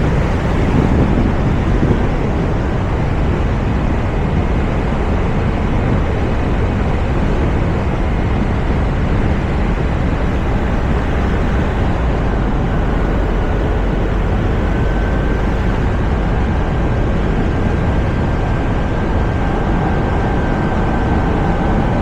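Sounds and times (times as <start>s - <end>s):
car road noise: 0.0s - 22.0s
wind rush: 0.0s - 22.0s.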